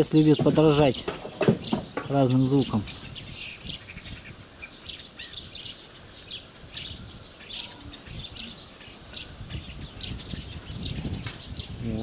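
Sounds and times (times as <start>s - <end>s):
starling singing: 0.0s - 12.0s.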